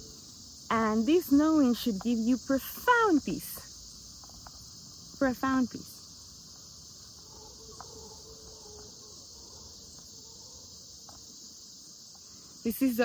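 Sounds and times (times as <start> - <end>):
faint crickets chirping: 0.0 - 13.0.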